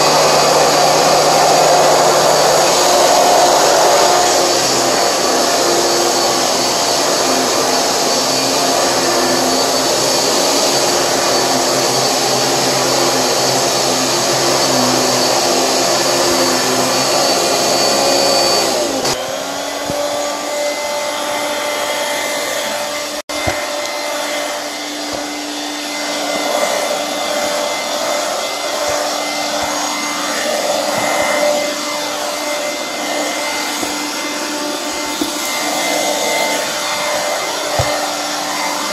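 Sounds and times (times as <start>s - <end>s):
vacuum cleaner motor whining: 0.0s - 38.9s.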